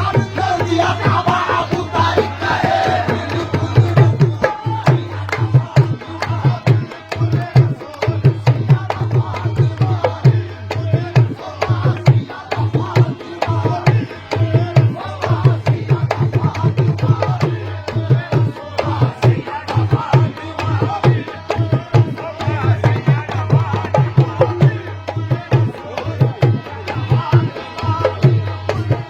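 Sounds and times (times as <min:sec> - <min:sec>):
fast dholak drumming: 0:00.0 - 0:29.0.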